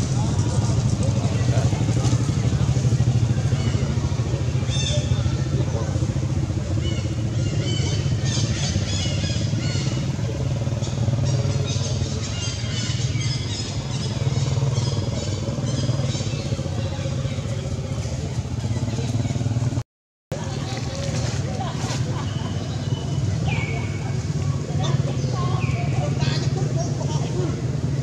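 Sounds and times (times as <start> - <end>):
engine rumbling: 0.0 - 28.0.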